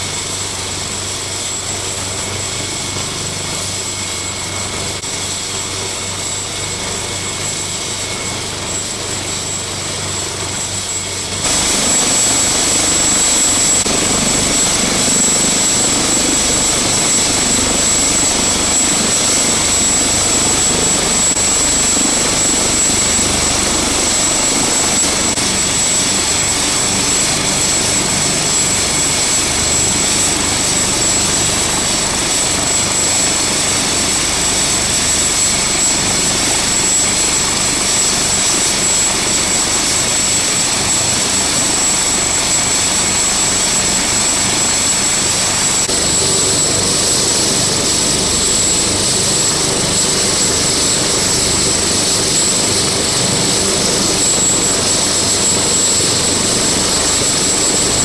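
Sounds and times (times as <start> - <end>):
helicopter engines and rotor: 0.0 - 58.0.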